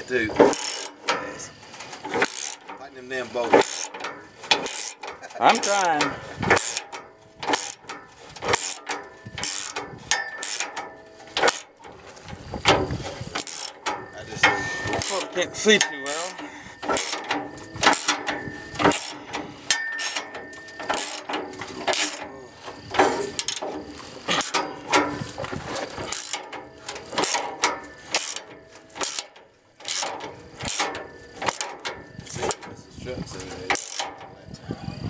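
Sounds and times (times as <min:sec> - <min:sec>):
ratchet wrench clicking: 0:00.3 - 0:32.7, 0:33.7 - 0:34.3.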